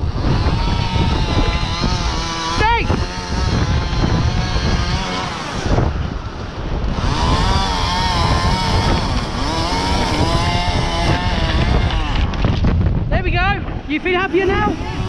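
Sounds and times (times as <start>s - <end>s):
chainsaw engine revving: 0.0s - 12.7s, 13.8s - 15.0s
wind buffeting microphone: 0.0s - 15.0s.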